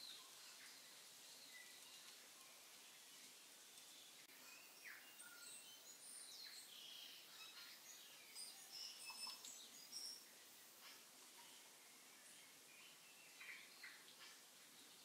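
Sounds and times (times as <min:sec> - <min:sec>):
faint bird chirping: 0:00.0 - 0:15.0
low steady hiss: 0:00.0 - 0:15.0.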